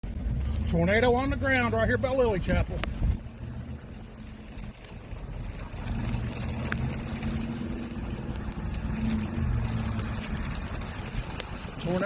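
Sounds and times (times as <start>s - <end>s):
low hum: 0.0s - 12.0s
wind rumbling on microphone: 0.0s - 12.0s.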